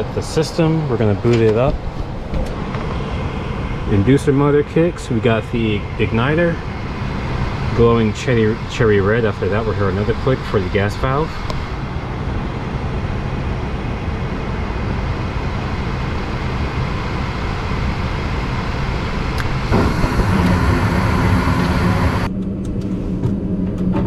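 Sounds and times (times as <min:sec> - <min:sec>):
furnace inducer motor running: 0:00.0 - 0:23.8
low steady hum: 0:00.0 - 0:24.0.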